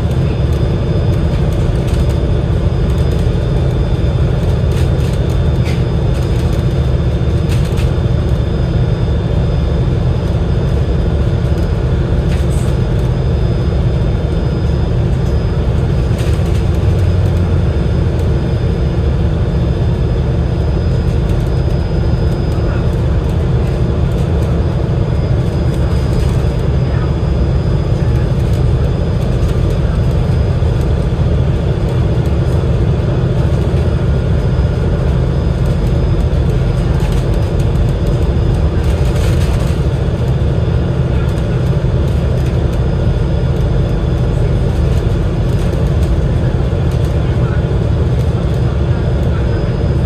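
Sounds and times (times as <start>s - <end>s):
bus diesel engine drone: 0.0s - 50.0s.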